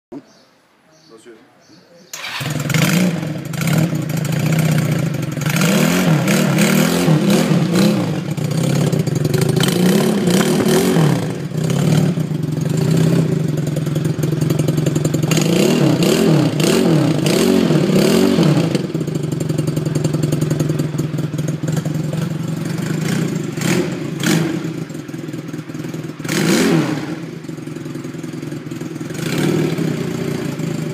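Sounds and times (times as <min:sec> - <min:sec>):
motorcycle engine idling and revving: 0:02.1 - 0:30.9.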